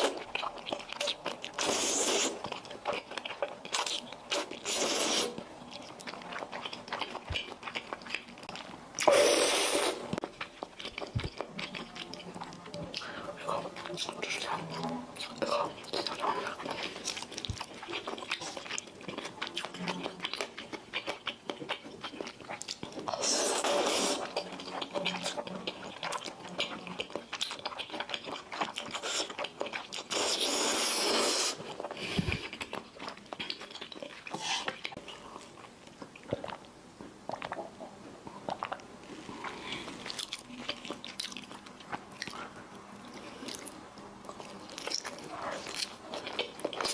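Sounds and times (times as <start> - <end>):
close chewing and biting: 0.0 - 46.9.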